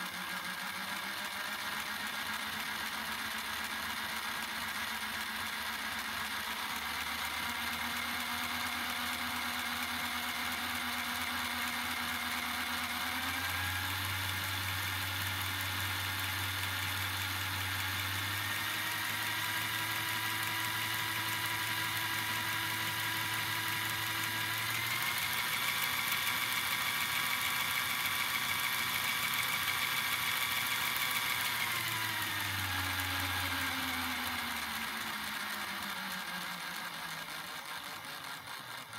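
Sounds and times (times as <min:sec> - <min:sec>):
toy electric motor whining: 0:00.0 - 0:38.9.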